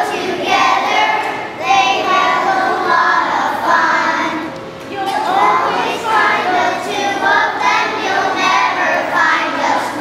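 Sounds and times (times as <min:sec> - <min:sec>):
children singing in unison: 0:00.0 - 0:04.5, 0:05.1 - 0:10.0.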